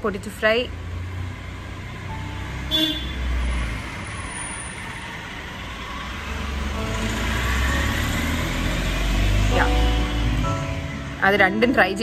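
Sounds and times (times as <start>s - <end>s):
road traffic rumbling: 0.0s - 12.0s.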